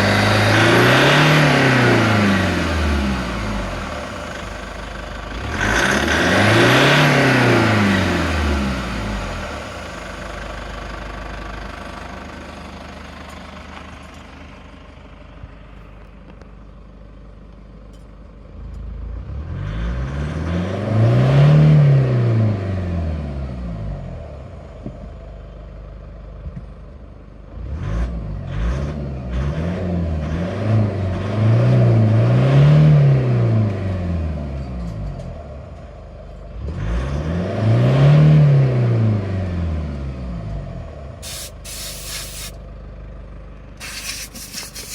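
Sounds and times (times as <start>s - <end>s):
diesel engine revving and idling: 0.0s - 44.9s.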